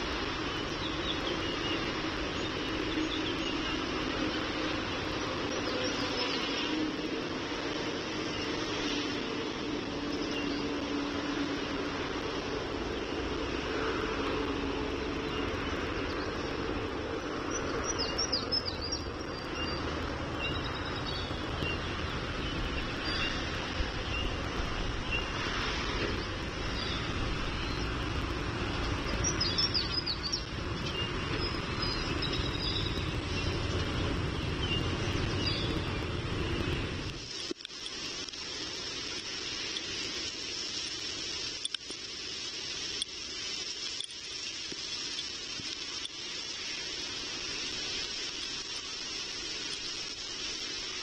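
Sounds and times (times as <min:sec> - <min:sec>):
outdoor background rumble: 0:00.0 - 0:51.0.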